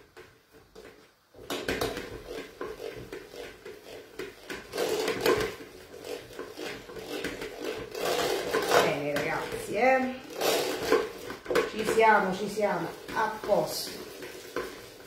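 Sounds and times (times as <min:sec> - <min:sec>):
metal spoon scraping metal bowl: 0:02.0 - 0:15.0.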